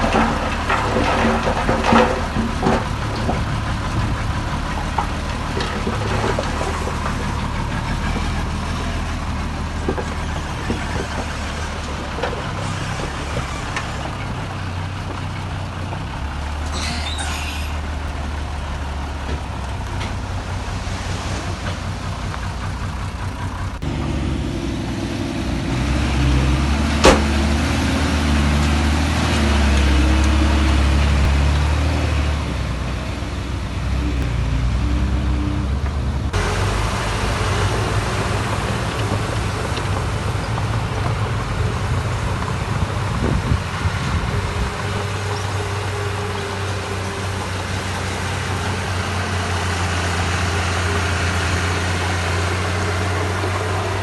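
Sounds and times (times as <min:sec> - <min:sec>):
diesel machinery engine hum: 0:00.0 - 0:54.0.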